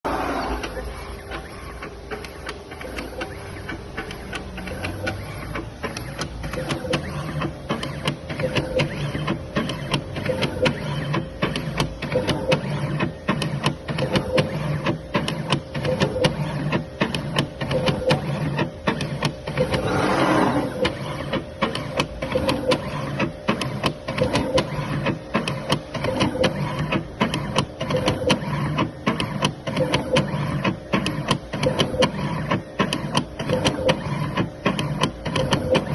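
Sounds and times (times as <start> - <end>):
motors whirring: 0.1 - 35.9
steady machine hum: 0.1 - 35.9
mechanical clicks: 0.4 - 35.9
machine ticking: 0.5 - 35.9.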